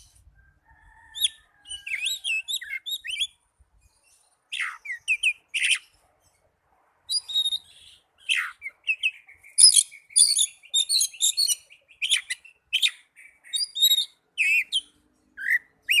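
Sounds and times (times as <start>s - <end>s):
songbird whistles and chirps: 0.0s - 6.4s, 7.0s - 16.0s.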